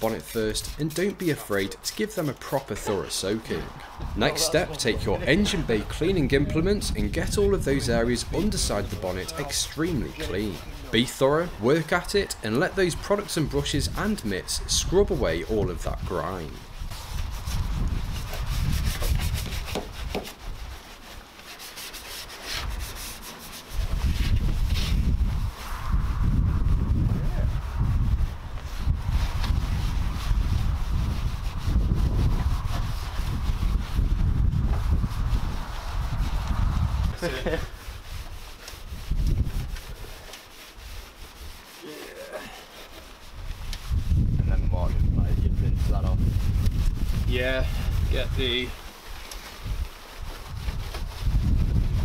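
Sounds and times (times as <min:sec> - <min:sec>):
wet scrubbing strokes: 0:00.0 - 0:52.0.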